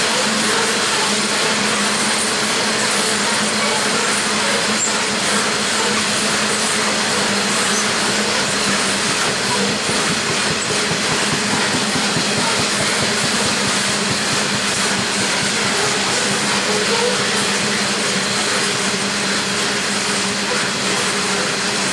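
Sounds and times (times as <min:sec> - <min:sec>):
diesel locomotives droning: 0:00.0 - 0:21.9
train wheels rumbling on rails: 0:00.0 - 0:21.9.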